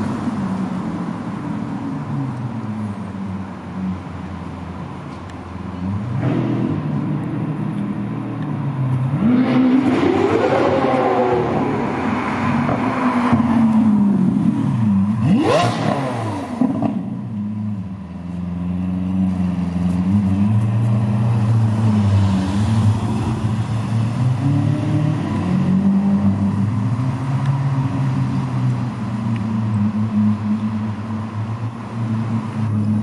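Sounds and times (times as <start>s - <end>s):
car engine revving and running: 0.0s - 33.0s.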